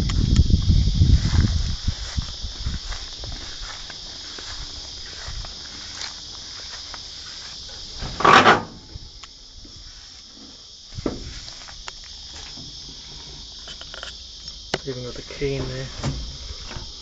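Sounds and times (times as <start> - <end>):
high-pitched insect chirring: 0.0 - 17.0.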